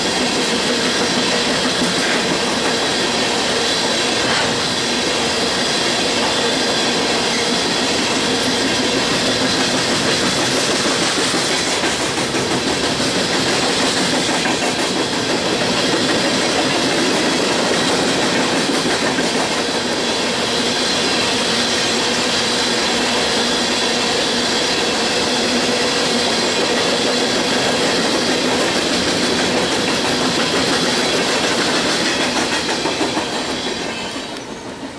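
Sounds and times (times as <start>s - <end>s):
train wheels clattering on rails: 0.0s - 34.9s.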